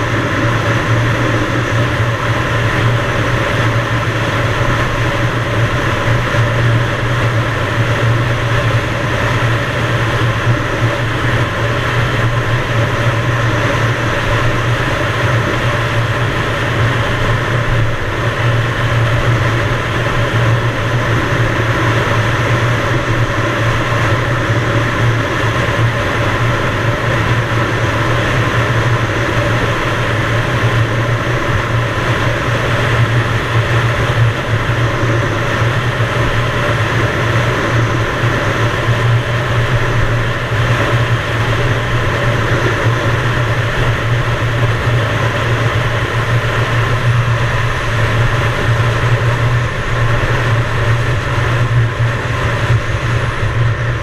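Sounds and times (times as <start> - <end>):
noisy rush: 0.0 - 54.0.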